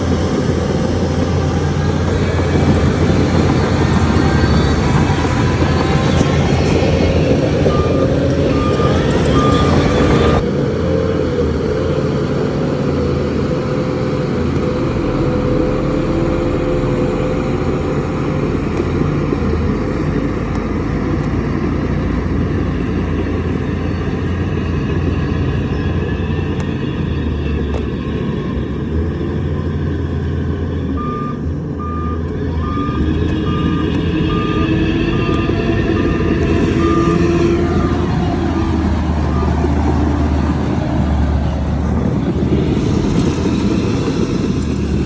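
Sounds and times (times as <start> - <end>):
diesel machinery engine rumbling: 0.0 - 45.0.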